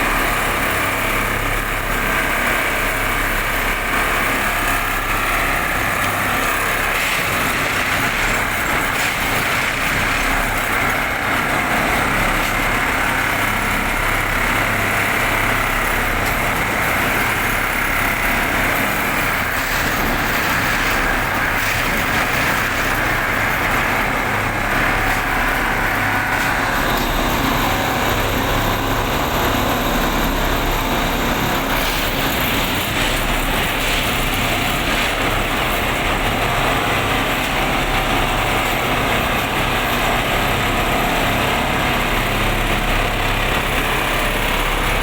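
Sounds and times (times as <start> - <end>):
industrial machine whirring: 0.0 - 45.0.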